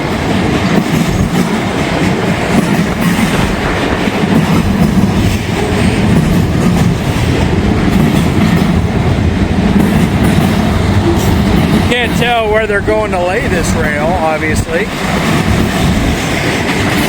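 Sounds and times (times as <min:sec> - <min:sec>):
freight train rumbling past: 0:00.0 - 0:17.0
train wheel clatter: 0:00.0 - 0:17.0.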